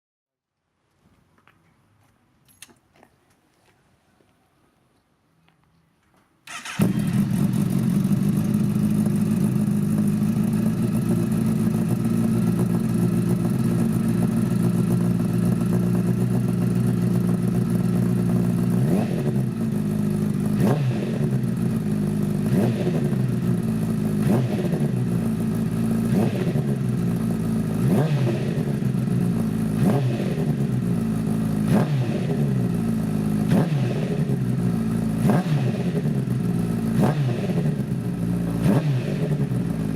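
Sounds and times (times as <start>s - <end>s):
motorcycle engine idling and revving: 6.5s - 39.9s.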